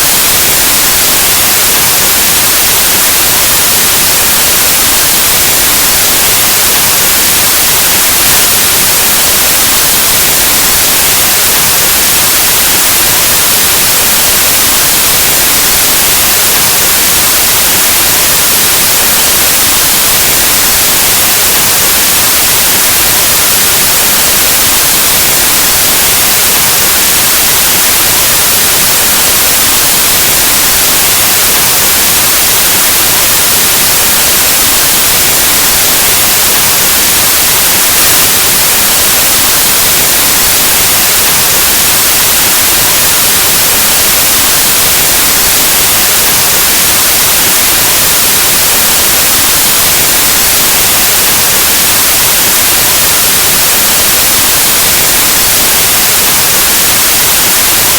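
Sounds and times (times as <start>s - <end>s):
white noise static hiss: 0.0s - 57.9s.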